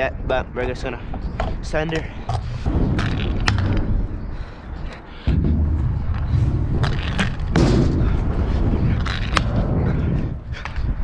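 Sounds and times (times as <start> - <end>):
scooter wheels rumbling: 0.7 - 11.0.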